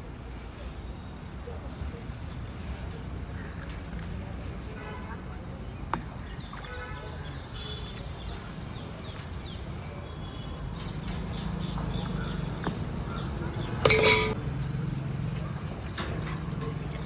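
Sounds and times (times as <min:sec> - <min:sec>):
steady low street rumble: 0:00.0 - 0:17.0.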